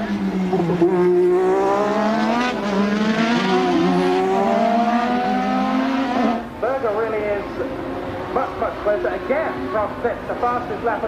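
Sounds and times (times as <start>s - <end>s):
racing car engine: 0.0s - 11.0s.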